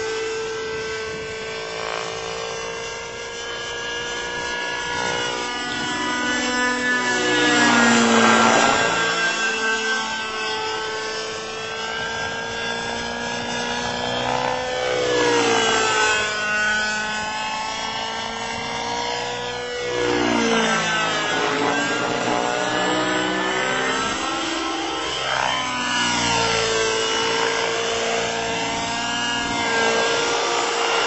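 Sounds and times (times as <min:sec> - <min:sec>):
model helicopter engine whine: 0:00.0 - 0:31.0.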